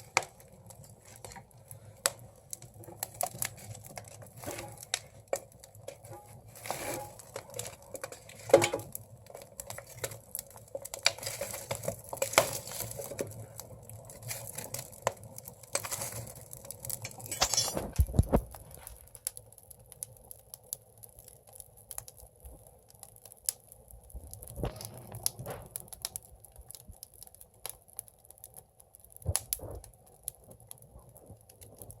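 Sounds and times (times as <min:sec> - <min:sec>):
firewood crackling and popping: 0:00.0 - 0:32.0.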